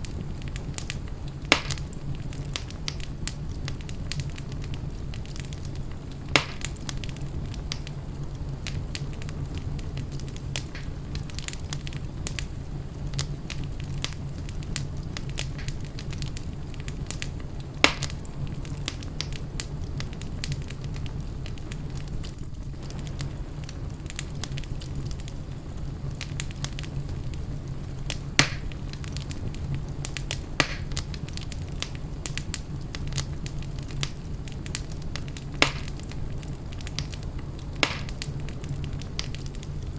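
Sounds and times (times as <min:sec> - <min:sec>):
fire crackling in fireplace: 0:00.0 - 0:39.9
loud fire pops: 0:00.0 - 0:39.9.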